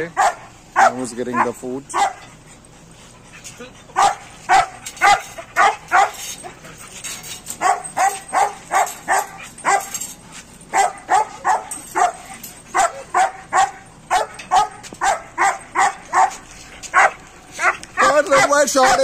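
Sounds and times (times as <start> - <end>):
dog barking: 0.1 - 2.3, 3.9 - 6.6, 7.5 - 10.1, 10.7 - 19.0.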